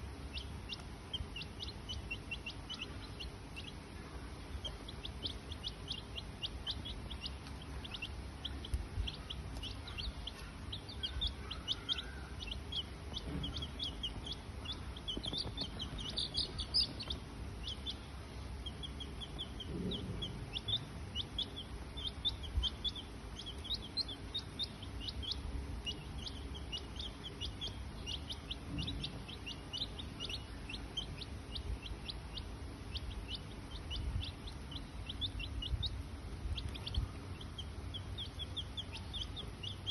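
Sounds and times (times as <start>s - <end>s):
low rumble: 0.0s - 39.8s
high-pitched bird-like chirping: 0.2s - 39.9s.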